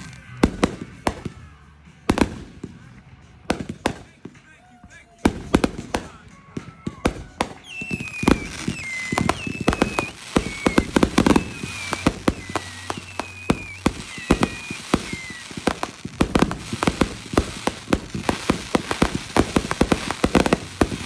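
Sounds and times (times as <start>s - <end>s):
fireworks cracking and banging: 0.0s - 21.0s
fireworks whistling: 0.0s - 21.0s.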